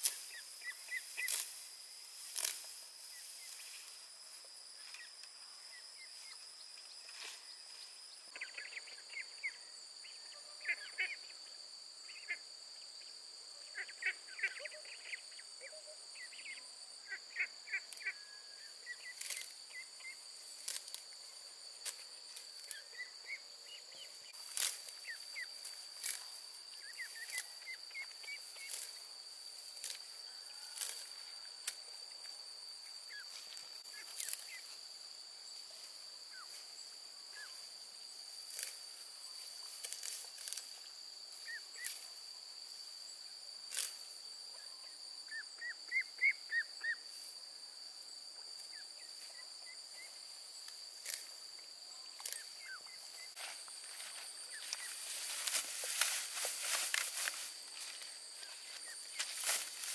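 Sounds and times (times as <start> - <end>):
high-pitched insect drone: 0.0 - 12.4, 13.8 - 59.9.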